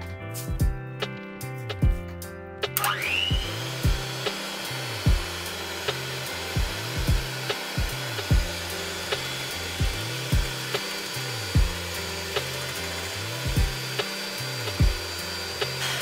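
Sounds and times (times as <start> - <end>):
background music with beat: 0.0 - 16.0
electric hand mixer whirring: 2.8 - 16.0.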